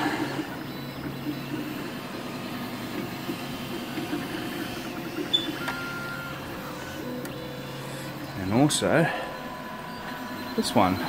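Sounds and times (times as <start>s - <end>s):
printer motors and fans whirring: 0.0s - 11.0s.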